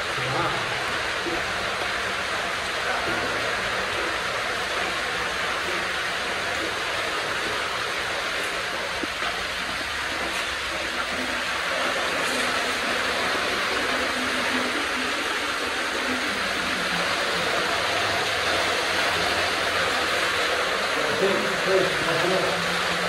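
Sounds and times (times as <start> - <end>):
water rushing through tunnel: 0.0 - 23.0.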